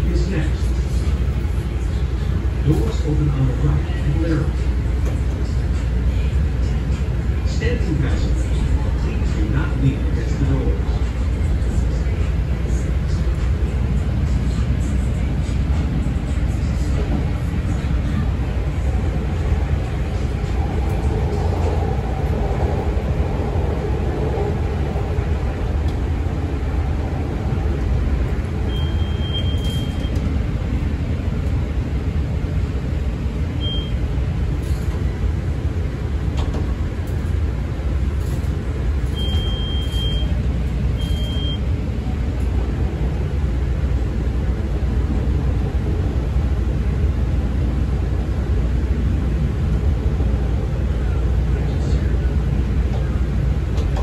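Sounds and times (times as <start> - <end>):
train wheels and motors rumbling: 0.0 - 54.0.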